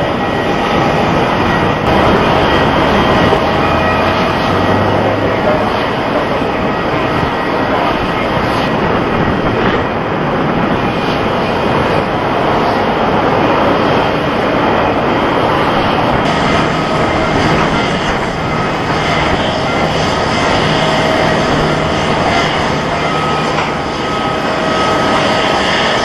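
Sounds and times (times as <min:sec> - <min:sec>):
faint steady whines: 0:00.0 - 0:26.0
jet engine noise: 0:00.0 - 0:26.0.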